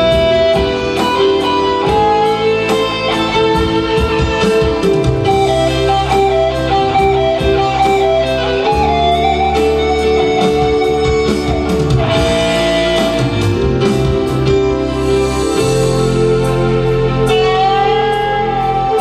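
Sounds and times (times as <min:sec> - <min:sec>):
electronic keyboard melody: 0:00.0 - 0:19.0
held bass: 0:00.0 - 0:19.0.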